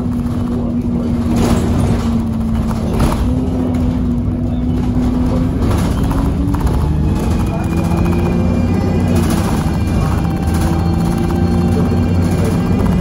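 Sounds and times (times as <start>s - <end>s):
bus diesel engine rumble: 0.0s - 13.0s
turbo whine: 2.5s - 13.0s.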